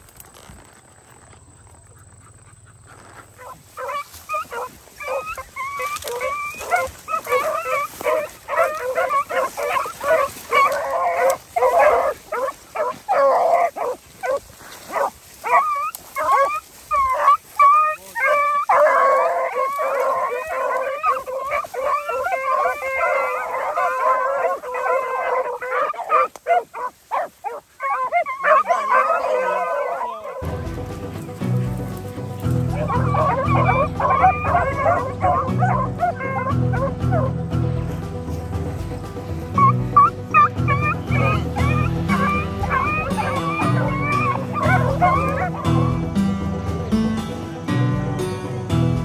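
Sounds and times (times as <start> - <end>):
hounds baying: 1.4 - 46.8.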